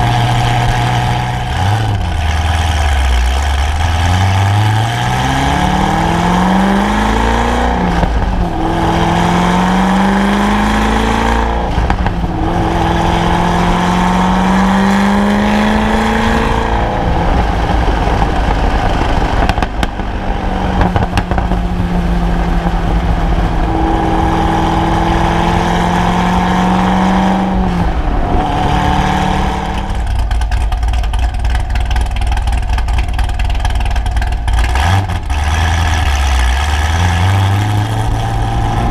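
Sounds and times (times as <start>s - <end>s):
car engine revving through gears: 0.0s - 30.3s, 34.5s - 38.9s.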